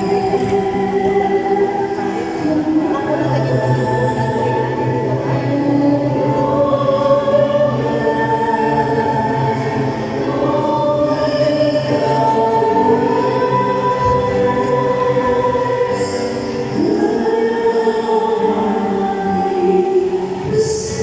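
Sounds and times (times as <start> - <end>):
choir singing a slow hymn: 0.0 - 21.0.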